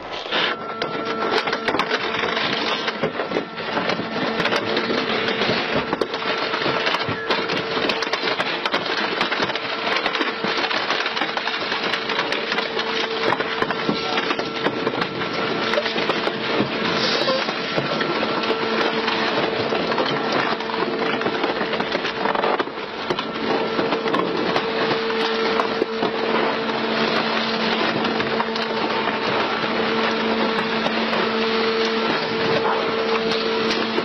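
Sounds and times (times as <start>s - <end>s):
metal and glass crackling and snapping: 0.0s - 34.0s
shredder machine hum: 0.0s - 34.0s.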